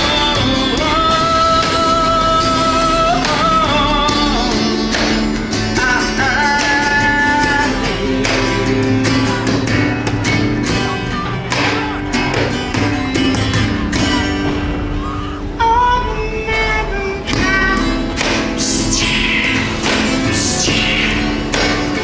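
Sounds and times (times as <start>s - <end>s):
person singing: 0.0s - 14.3s, 14.9s - 22.0s
strummed acoustic guitar: 0.0s - 22.0s.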